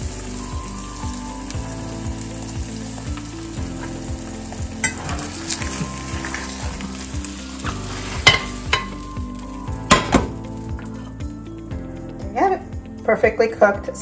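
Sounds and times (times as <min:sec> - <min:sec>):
eggs sizzling in a pan: 0:00.0 - 0:12.6.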